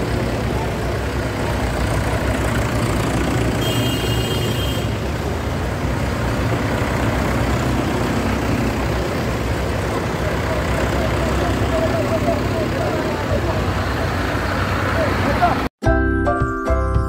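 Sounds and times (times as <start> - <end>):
tractor diesel engines running: 0.0 - 15.7.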